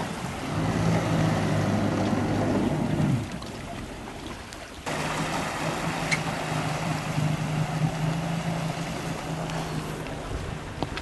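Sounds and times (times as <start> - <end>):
water and air wash: 0.0 - 3.5, 4.8 - 10.9
jet ski engine humming: 0.0 - 11.0.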